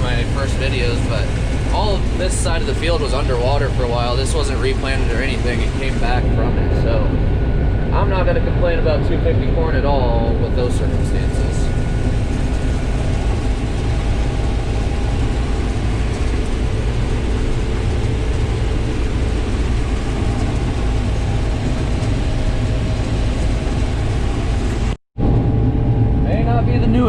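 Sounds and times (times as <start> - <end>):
combine harvester droning: 0.0 - 27.0.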